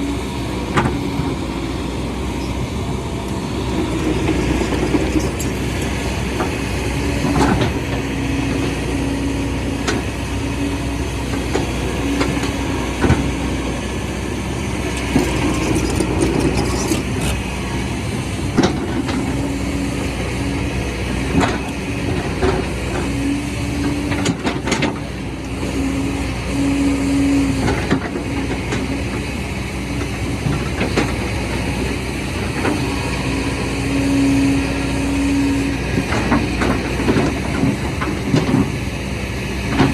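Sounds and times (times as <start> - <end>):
heavy machinery humming: 0.0 - 39.9.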